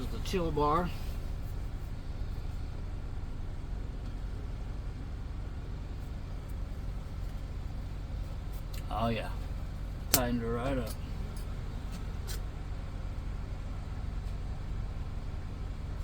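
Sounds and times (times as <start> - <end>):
low engine rumble with hiss: 0.0 - 16.0.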